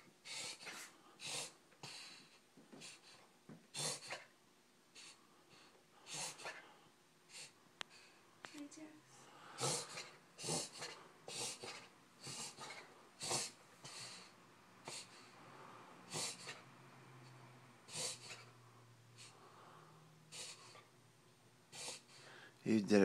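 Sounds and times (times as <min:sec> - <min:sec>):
dog laboured breathing: 0:00.0 - 0:04.3, 0:05.0 - 0:08.2, 0:09.3 - 0:18.6, 0:19.2 - 0:20.9, 0:21.7 - 0:22.5.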